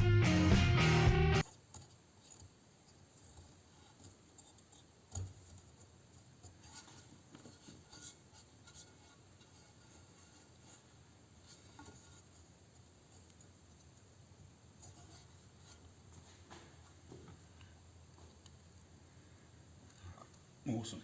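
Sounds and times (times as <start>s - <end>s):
small parts clicking and rubbing: 1.4s - 18.6s.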